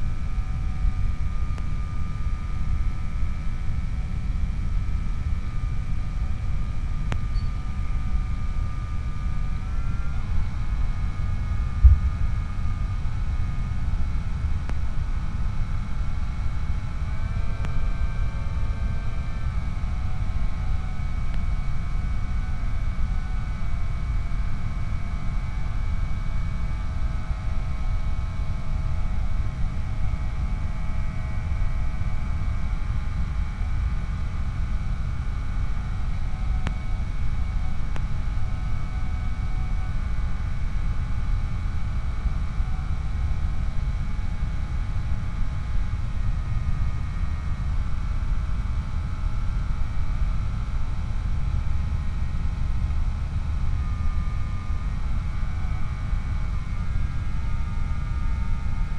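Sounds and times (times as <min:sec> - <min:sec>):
wind rumble on microphone: 0:00.0 - 0:58.9.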